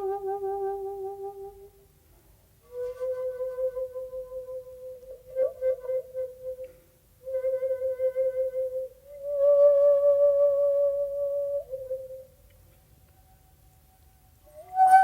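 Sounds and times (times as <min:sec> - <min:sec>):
shakuhachi flute long notes: 0:00.0 - 0:01.9, 0:02.6 - 0:15.0.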